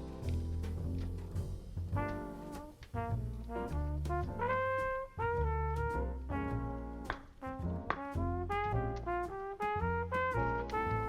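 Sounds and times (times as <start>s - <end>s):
bass line: 0.0s - 11.0s
brass-like melody: 0.0s - 11.0s
light percussion: 0.0s - 11.0s.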